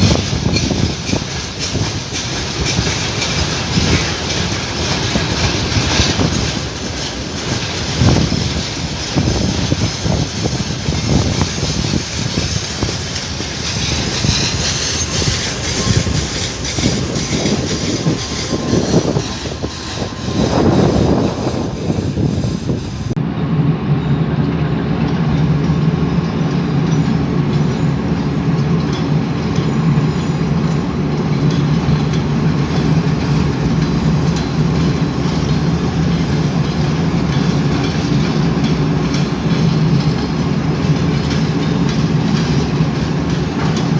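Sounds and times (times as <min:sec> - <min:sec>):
train wheels clattering on rails: 0:00.0 - 0:43.9.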